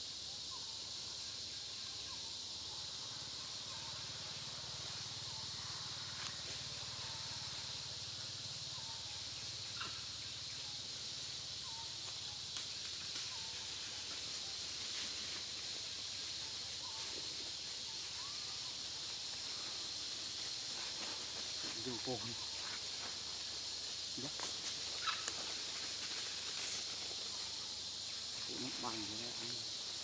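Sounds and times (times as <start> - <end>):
high-pitched hiss: 0.0 - 30.0.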